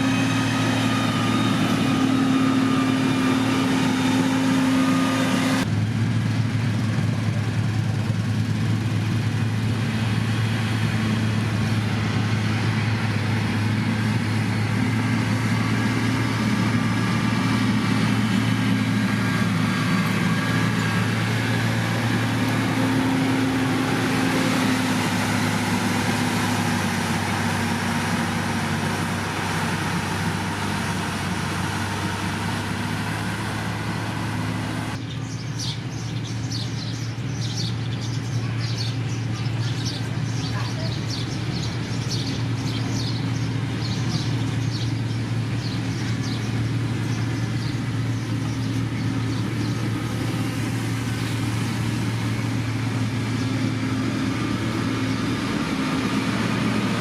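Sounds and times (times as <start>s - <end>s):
engine hiss: 0.0s - 57.0s
heavy diesel engine running: 0.0s - 57.0s.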